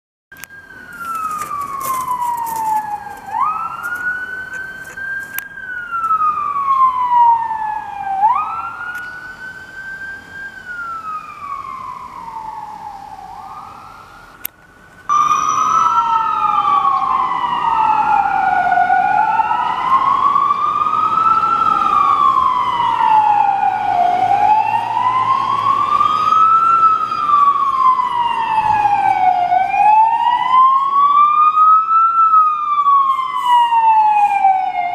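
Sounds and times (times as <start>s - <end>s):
fire engine sirens wailing: 0.4s - 34.9s.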